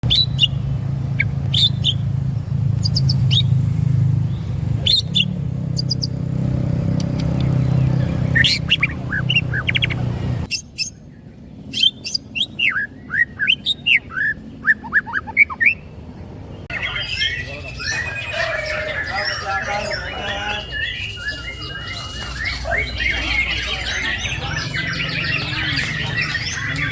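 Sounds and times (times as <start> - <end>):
songbird chirping: 0.0 - 26.9.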